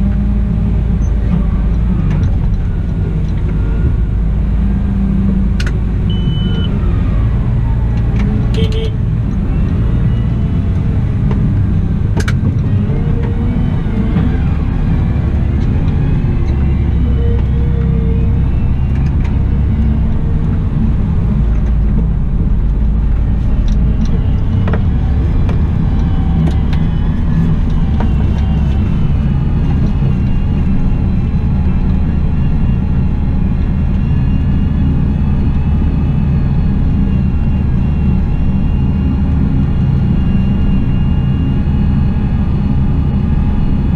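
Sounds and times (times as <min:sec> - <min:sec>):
wheel loader diesel engine running: 0:00.0 - 0:43.9
whine rising and falling in pitch: 0:00.0 - 0:43.9.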